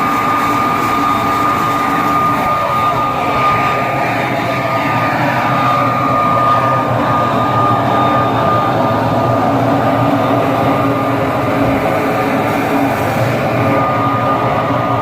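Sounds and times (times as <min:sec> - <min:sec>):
high-pitched whine: 0:00.0 - 0:15.0
truck engine droning: 0:00.0 - 0:15.0.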